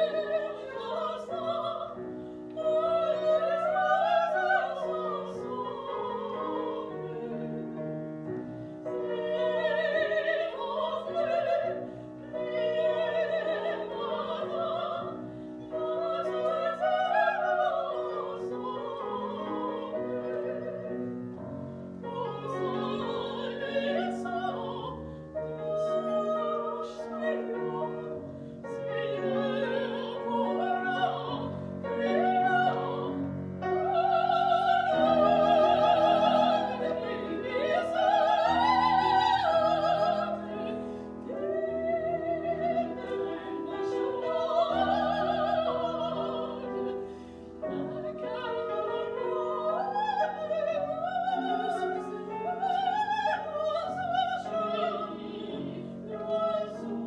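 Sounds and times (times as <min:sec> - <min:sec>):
grand piano: 0:00.0 - 0:57.0
two women singing operatic duet: 0:00.0 - 0:57.0.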